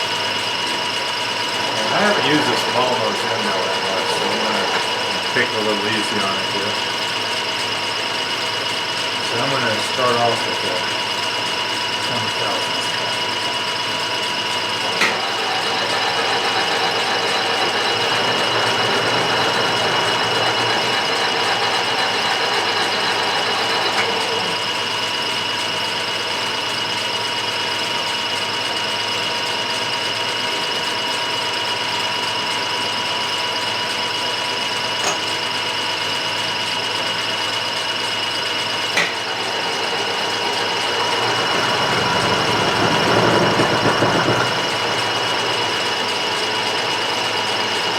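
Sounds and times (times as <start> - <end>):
milling machine whine: 0.0 - 47.9.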